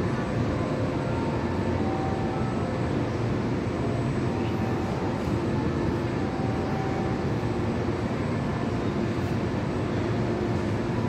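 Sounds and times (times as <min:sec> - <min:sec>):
low rumble of city noise: 0:00.0 - 0:11.0.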